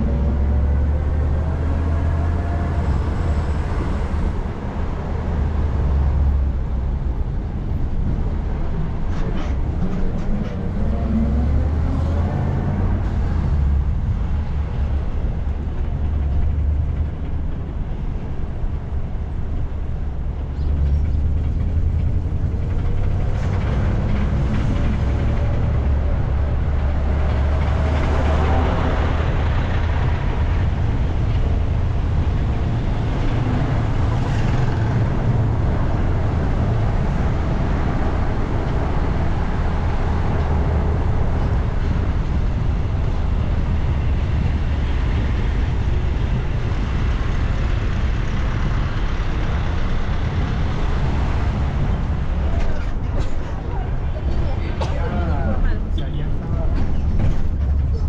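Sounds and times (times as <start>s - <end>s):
bus engine rumbling: 0.0s - 58.0s
road noise: 0.0s - 58.0s.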